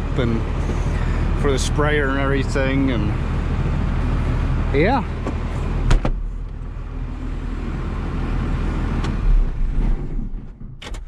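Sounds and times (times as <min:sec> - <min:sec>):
diesel tractor idling: 0:00.0 - 0:10.6.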